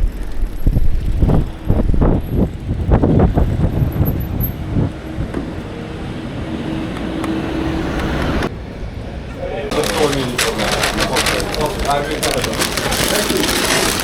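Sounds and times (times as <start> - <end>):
road vehicle rumbling: 0.0 - 14.0.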